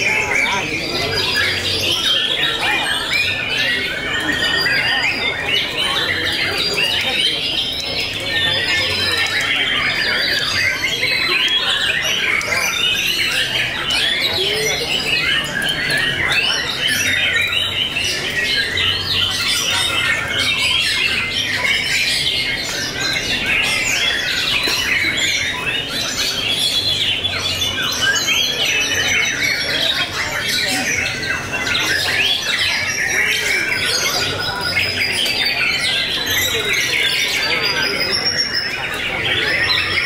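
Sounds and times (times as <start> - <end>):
songbirds whistling and trilling: 0.0 - 40.0.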